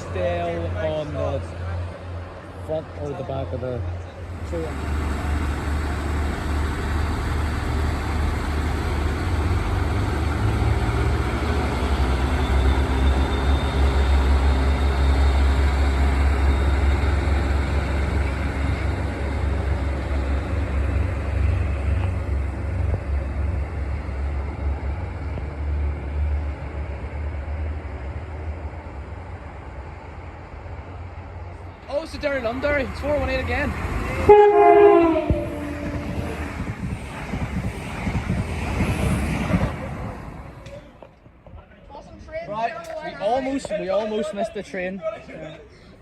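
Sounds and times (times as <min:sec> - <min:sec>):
train passing rumble: 0:00.0 - 0:46.0.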